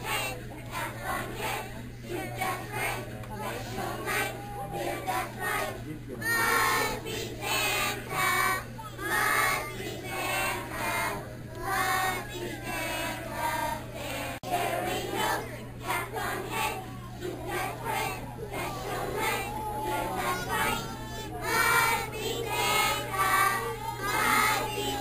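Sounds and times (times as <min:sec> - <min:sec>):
young children singing: 0:00.0 - 0:25.0.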